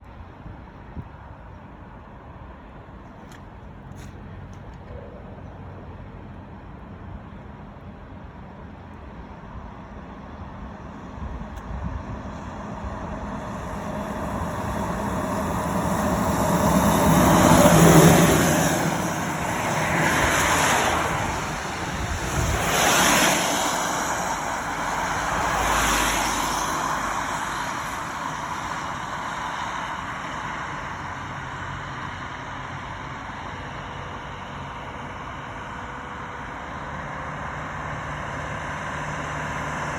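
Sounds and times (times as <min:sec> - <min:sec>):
steady traffic noise: 0:00.0 - 0:39.9
vehicles passing: 0:00.0 - 0:39.9.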